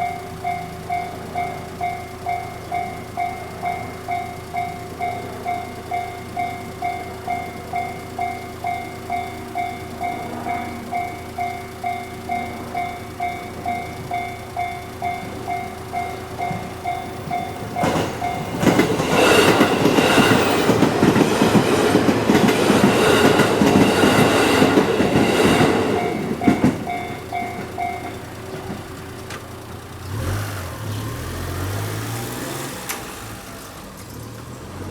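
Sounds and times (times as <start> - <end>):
level-crossing warning bell: 0.0 - 30.0
train wheels clattering on rails: 0.0 - 30.9
vehicle engine pulling away: 0.0 - 34.9.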